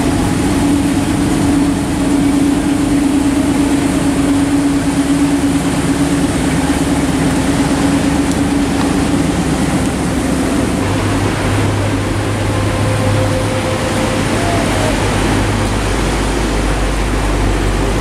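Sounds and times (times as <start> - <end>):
car engines running at low speed: 0.0 - 18.0
deep low car engine rumble: 0.0 - 18.0
pickup engine hum: 0.0 - 18.0
rain: 0.0 - 18.0
surf: 0.0 - 18.0.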